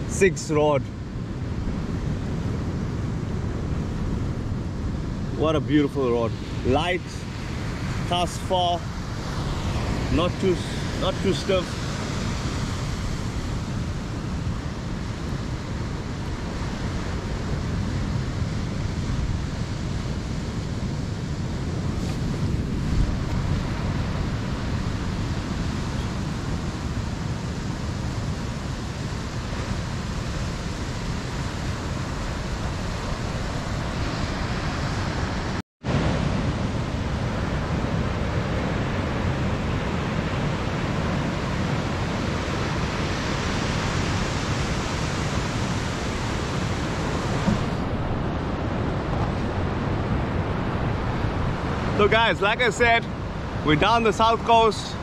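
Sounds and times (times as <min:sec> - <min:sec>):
ocean surf breaking: 0:00.0 - 0:55.0
wind on microphone: 0:00.0 - 0:55.0.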